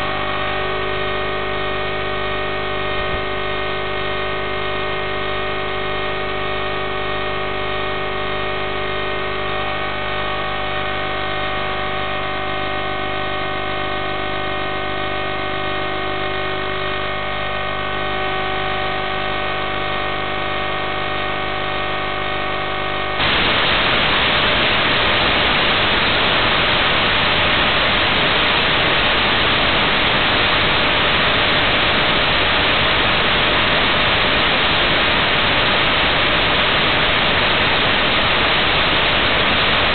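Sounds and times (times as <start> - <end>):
electronic buzz: 0.0 - 39.9
white-noise static: 0.0 - 39.9.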